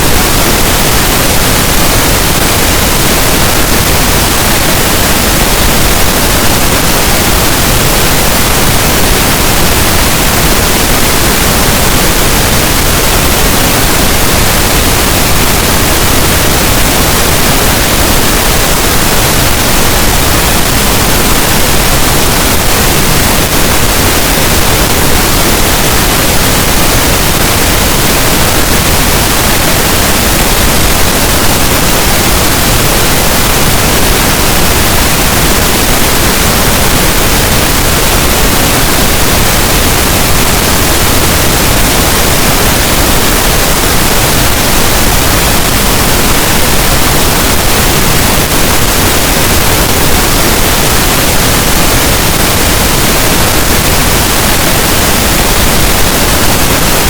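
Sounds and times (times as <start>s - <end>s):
steady pink noise: 0.0s - 57.0s.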